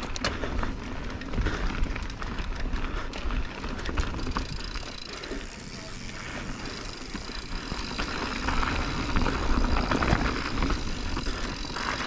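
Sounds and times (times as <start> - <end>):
bike rattling: 0.0 - 12.0
bike tyres on dirt: 0.0 - 12.0.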